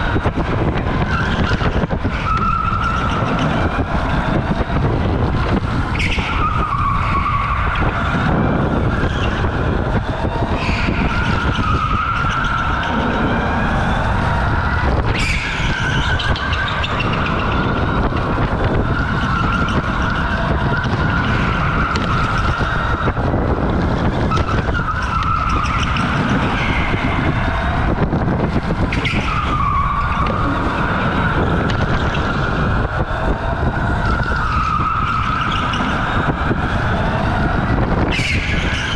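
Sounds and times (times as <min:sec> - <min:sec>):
electric go-kart motor whining: 0:00.0 - 0:38.9.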